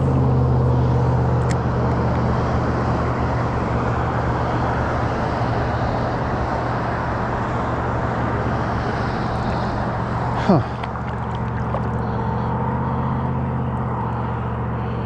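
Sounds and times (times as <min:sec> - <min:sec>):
small boat motor running: 0:00.0 - 0:15.0.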